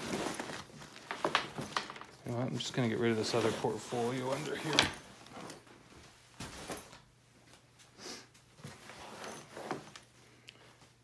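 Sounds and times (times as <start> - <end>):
sliding and rustling: 0.0 - 7.6, 8.5 - 11.0.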